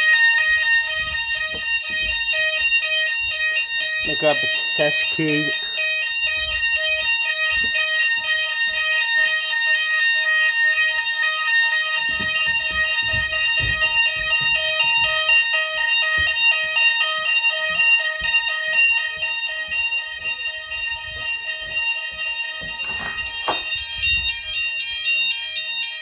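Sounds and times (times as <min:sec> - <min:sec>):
pulsing alarm tones: 0:00.0 - 0:26.0
steady high alarm tone: 0:00.0 - 0:26.0.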